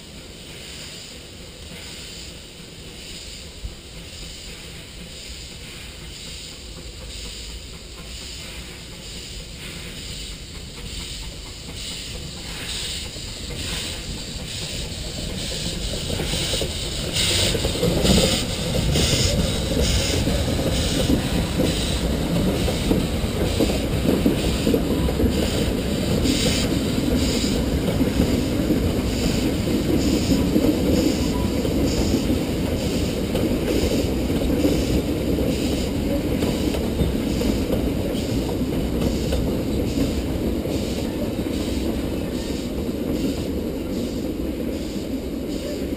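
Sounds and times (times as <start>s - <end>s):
steam locomotive exhaust beats: 0.0s - 45.9s
carriages rumbling over bridge: 2.2s - 45.9s.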